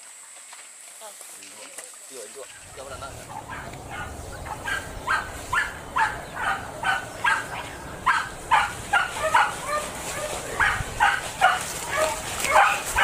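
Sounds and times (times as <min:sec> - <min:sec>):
dogs yipping: 0:02.5 - 0:13.0.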